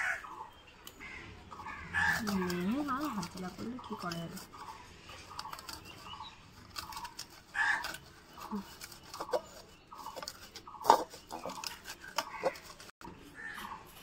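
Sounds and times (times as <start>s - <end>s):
hen clucking: 0.0s - 14.0s
metal spoon scraping steel bowl: 1.0s - 14.0s.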